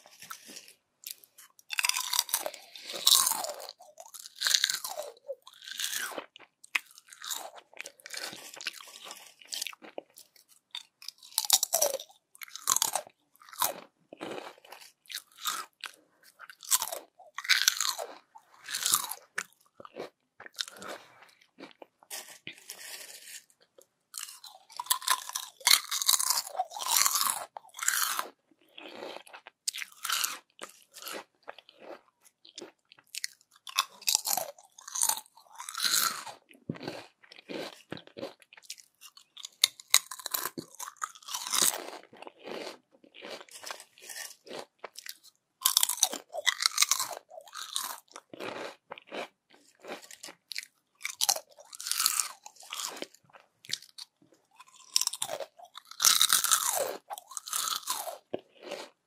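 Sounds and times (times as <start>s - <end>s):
crunching and chewing crispy chips: 0.0s - 59.0s.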